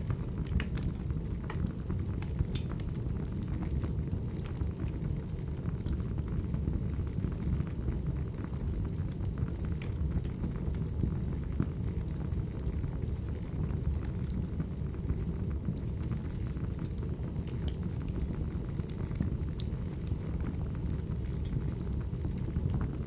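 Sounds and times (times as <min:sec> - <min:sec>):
fire crackles and pops: 0:00.0 - 0:23.0
fire rumbling: 0:00.0 - 0:23.0.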